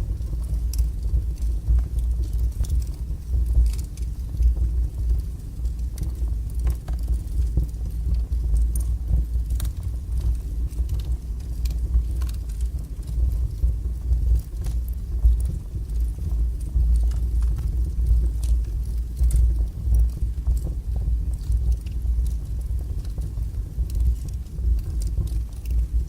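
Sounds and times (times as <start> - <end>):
fire crackles and pops: 0.0 - 26.0
wood fire burning: 0.0 - 26.0.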